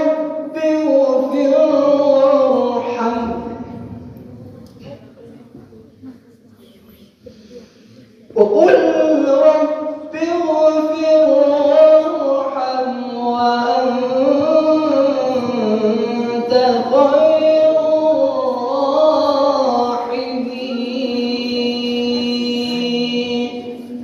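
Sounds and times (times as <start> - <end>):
man chanting melodic recitation: 0.0 - 4.1, 8.3 - 24.0.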